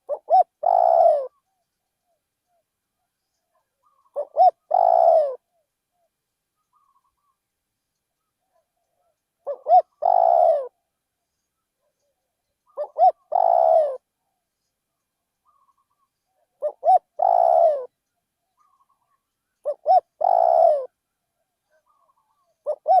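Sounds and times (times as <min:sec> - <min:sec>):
dove cooing: 0:00.0 - 0:02.6, 0:03.2 - 0:07.4, 0:08.2 - 0:10.8, 0:11.9 - 0:14.1, 0:15.4 - 0:21.0, 0:21.6 - 0:23.0.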